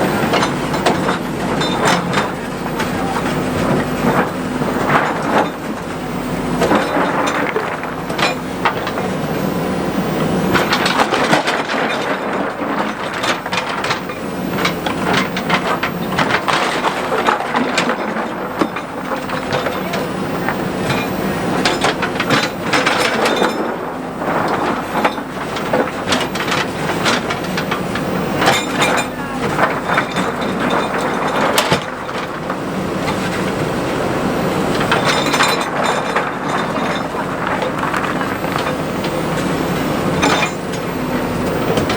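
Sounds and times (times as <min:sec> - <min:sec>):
diesel engine running: 0:00.0 - 0:41.9
machinery clattering and knocking: 0:00.0 - 0:41.9.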